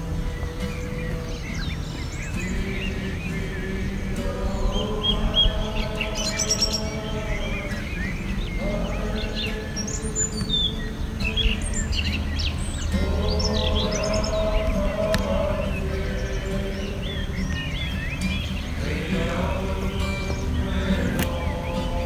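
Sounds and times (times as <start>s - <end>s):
birds chirping and twittering: 0.0s - 22.0s
music with sustained chords: 0.0s - 22.0s.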